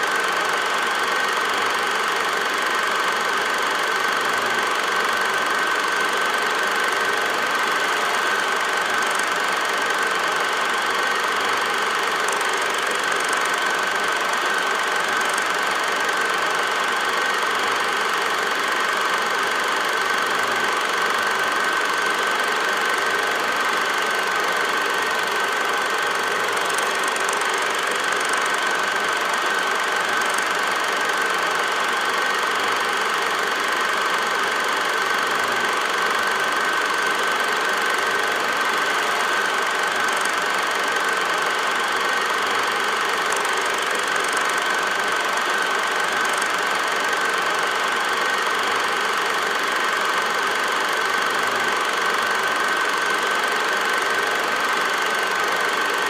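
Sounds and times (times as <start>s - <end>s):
film projector running: 0.0s - 56.0s.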